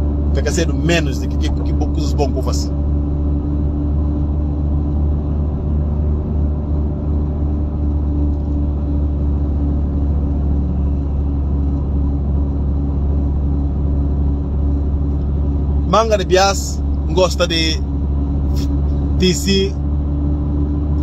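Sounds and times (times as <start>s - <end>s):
car engine drone and road rumble: 0.0s - 21.0s.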